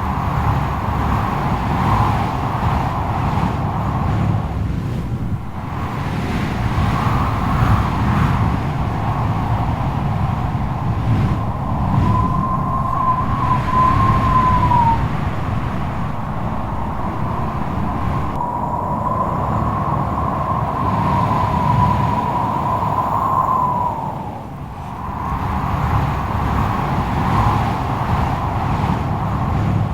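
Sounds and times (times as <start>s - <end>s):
strong wind rumbling: 0.0s - 29.9s
wind whistling howl: 0.0s - 29.9s.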